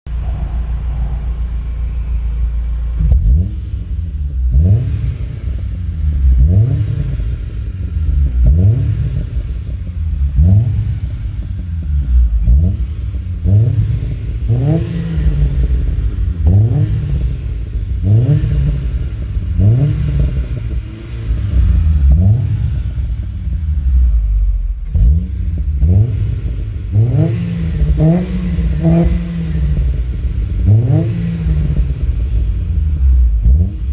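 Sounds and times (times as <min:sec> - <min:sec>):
car engine revving: 0:00.0 - 0:33.9
engine idle rumble: 0:00.1 - 0:33.9.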